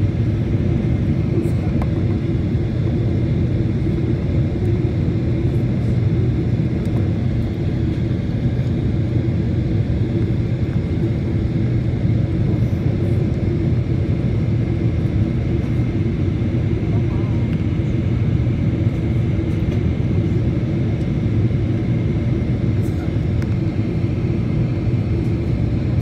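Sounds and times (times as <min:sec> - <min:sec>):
airplane engines droning in cabin: 0:00.0 - 0:26.0.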